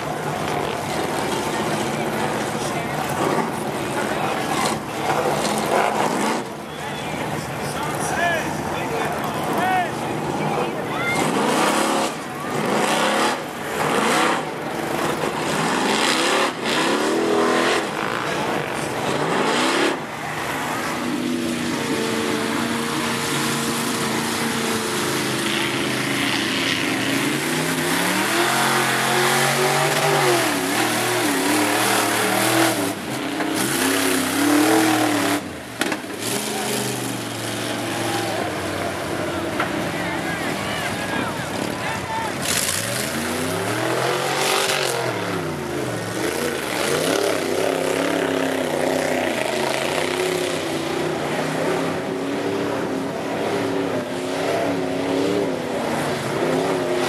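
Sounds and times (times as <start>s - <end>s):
truck engines revving: 0.0s - 57.0s
tyres churning through mud: 0.0s - 57.0s.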